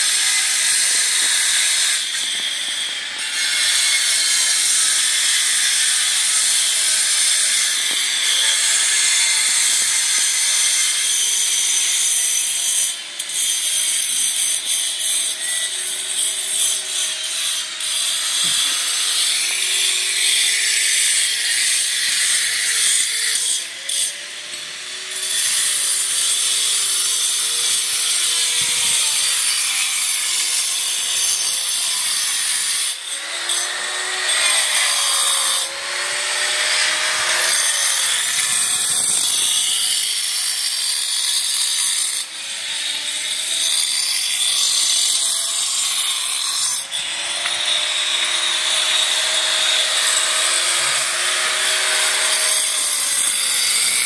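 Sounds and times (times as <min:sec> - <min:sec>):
power grinder cutting stone: 0:00.0 - 0:54.0.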